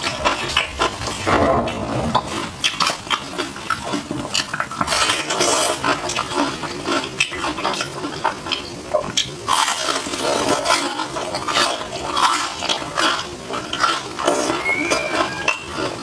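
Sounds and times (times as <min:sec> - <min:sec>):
chewing crispy fried food: 0:00.0 - 0:16.0.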